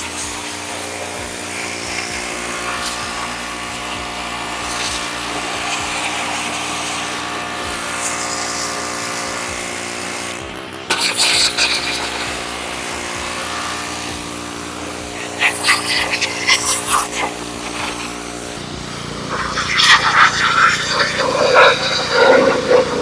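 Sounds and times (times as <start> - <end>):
pressure washer engine running: 0.0 - 23.0
water jet spraying: 0.0 - 23.0.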